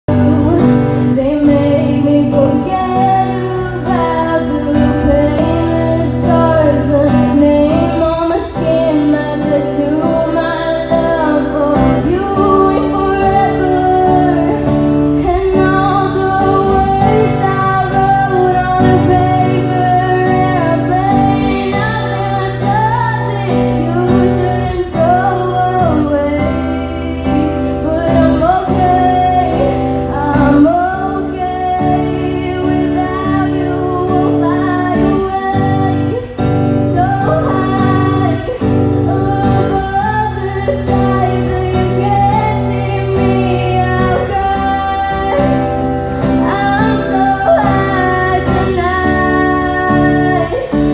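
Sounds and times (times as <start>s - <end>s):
guitar playing: 0.0s - 50.9s
woman singing into microphone: 0.0s - 50.9s.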